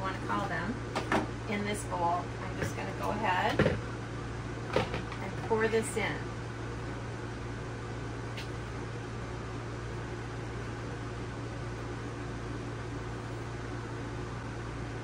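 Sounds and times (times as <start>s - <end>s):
fan hum with airy hiss: 0.0s - 15.0s.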